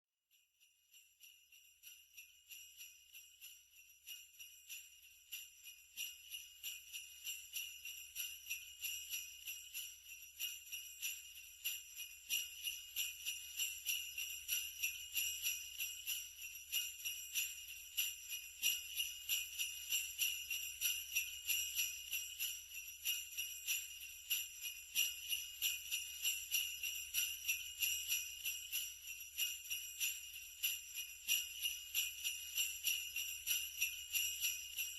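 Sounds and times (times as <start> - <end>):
sleigh bells jingling: 0.3 - 34.9.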